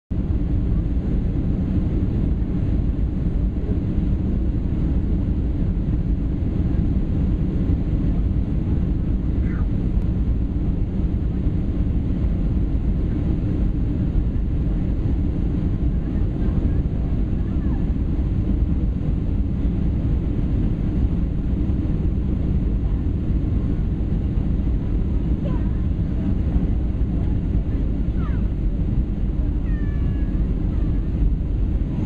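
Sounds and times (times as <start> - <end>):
rushing airflow: 0.1 - 32.0
jet engines roaring: 0.3 - 32.0.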